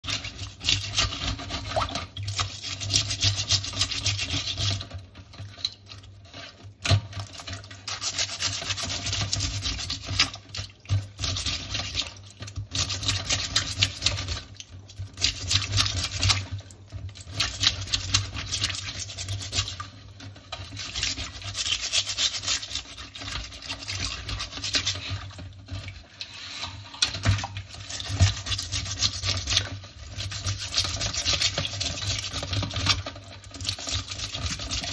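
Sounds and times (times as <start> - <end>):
brush scrubbing crab shell: 0.0 - 34.9.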